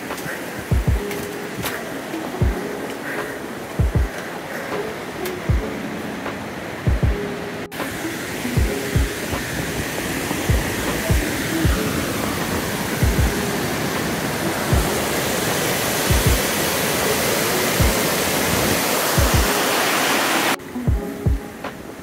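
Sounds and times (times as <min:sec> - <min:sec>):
background music with low beat: 0:00.0 - 0:19.8, 0:20.5 - 0:22.0
waterfall rushing: 0:00.0 - 0:22.0.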